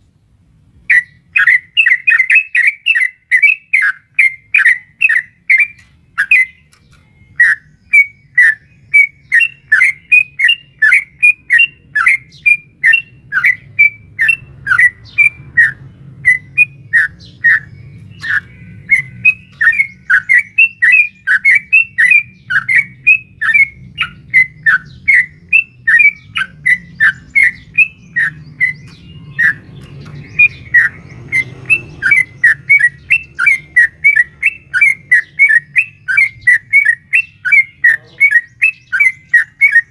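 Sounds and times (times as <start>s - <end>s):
bulbul singing sharp notes: 0.9s - 39.9s.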